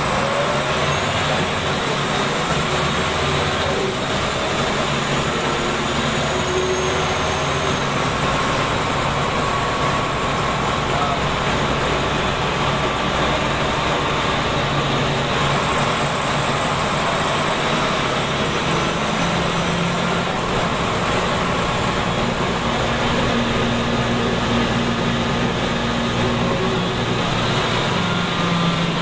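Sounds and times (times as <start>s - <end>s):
bus diesel engine running: 0.0s - 29.0s
road noise: 0.0s - 29.0s.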